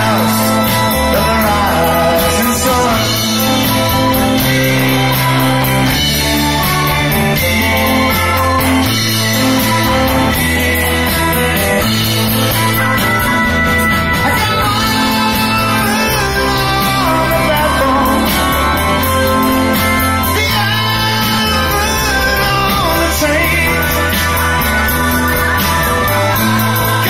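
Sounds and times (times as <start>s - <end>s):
bass line: 0.0s - 27.0s
live rock band playing: 0.0s - 27.0s.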